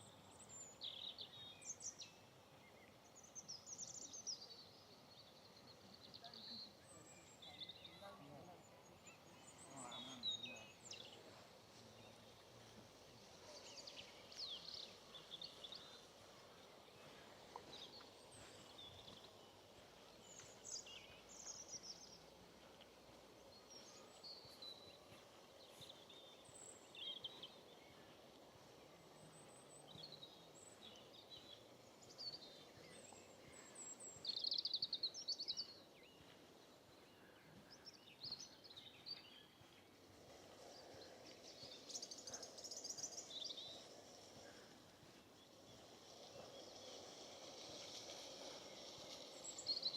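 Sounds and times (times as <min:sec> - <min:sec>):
outdoor background noise: 0:00.0 - 0:49.9
small birds singing: 0:00.0 - 0:49.9.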